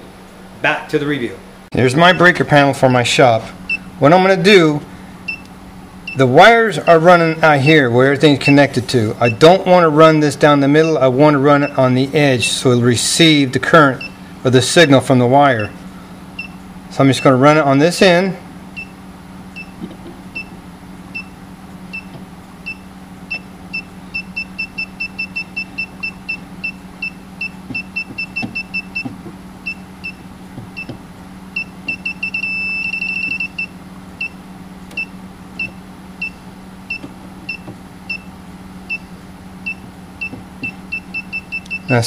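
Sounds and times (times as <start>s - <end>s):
breaker finder beeping: 0.0s - 42.0s.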